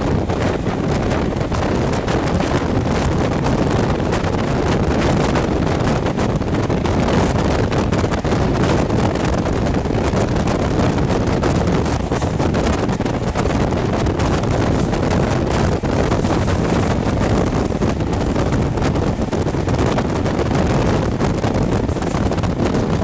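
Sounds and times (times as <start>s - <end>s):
train running noise: 0.0s - 23.0s
wind buffeting microphone: 0.0s - 23.0s.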